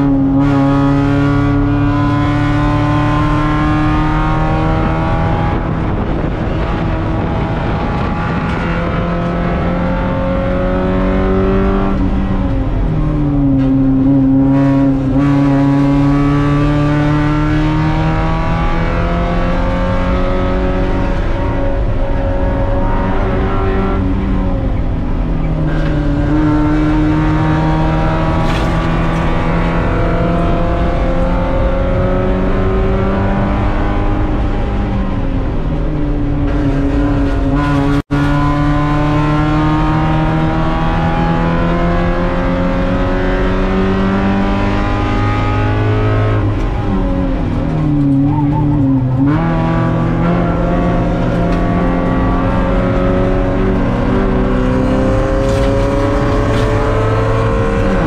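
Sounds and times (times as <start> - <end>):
race car engine under load: 0.0 - 58.0.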